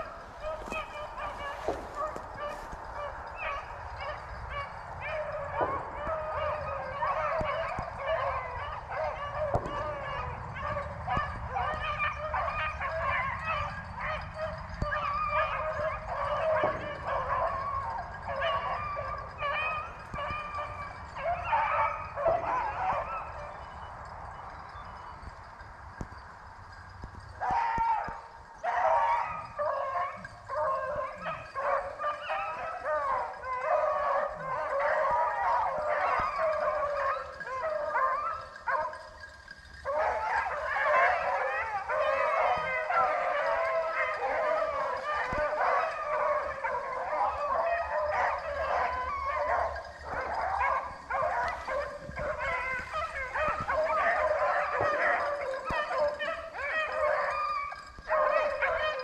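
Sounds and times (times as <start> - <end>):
hounds baying and yelping: 0.0 - 59.0.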